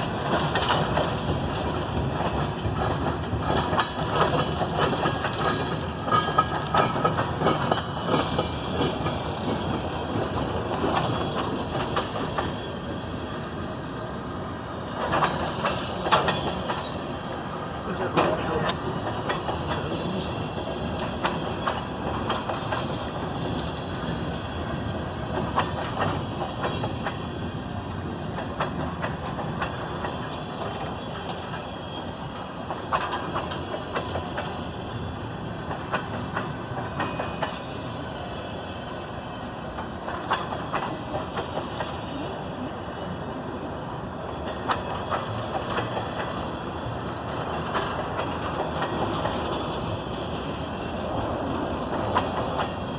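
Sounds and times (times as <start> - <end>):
steel wheels rumbling on rail: 0.0 - 52.9
wheels clacking over rail joints: 0.0 - 52.9.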